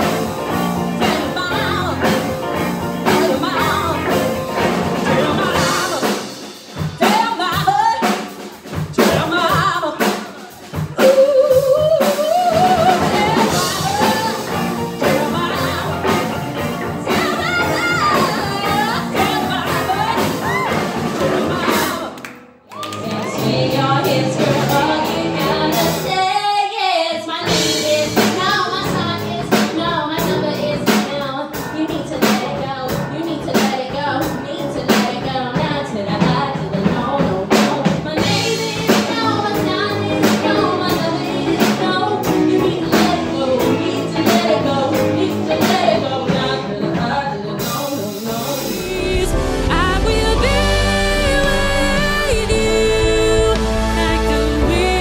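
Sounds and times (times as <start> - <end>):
rock band playing: 0.0 - 26.4, 27.4 - 55.0
woman singing: 0.0 - 55.0.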